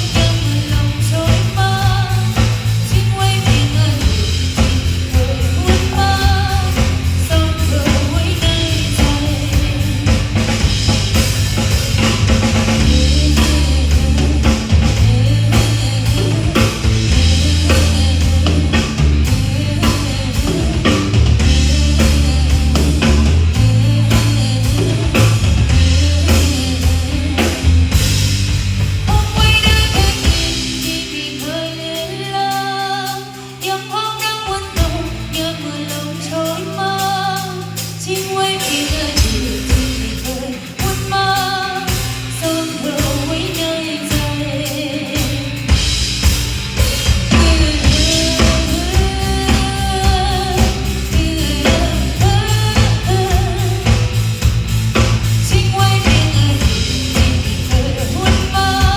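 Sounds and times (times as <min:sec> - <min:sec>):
person singing: 0:00.0 - 0:10.7, 0:12.6 - 0:28.1, 0:29.1 - 0:46.0, 0:47.3 - 0:54.4, 0:55.0 - 0:58.9
live band playing: 0:00.0 - 0:58.9.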